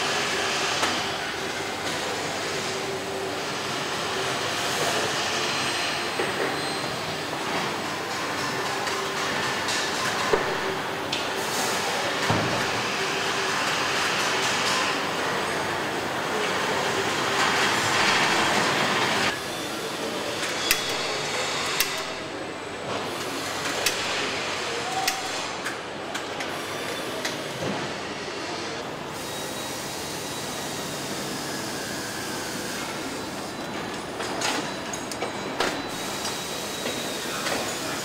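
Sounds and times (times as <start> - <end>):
factory hiss and hum: 0.0 - 38.0.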